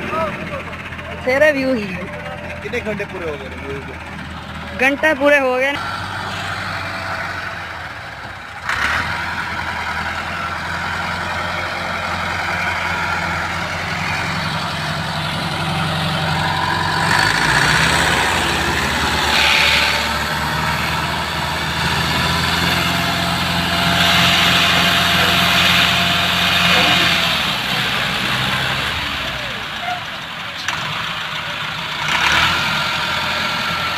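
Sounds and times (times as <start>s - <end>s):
tractor diesel engine straining: 0.0s - 33.9s.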